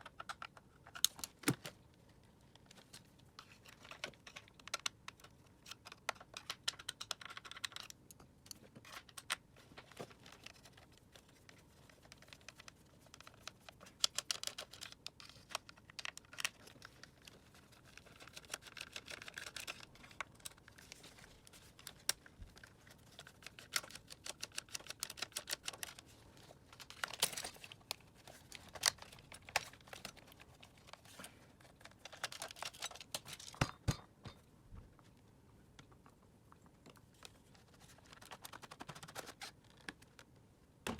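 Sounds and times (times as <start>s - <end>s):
plastic parts clicking and scraping: 0.0s - 34.4s, 35.7s - 40.9s.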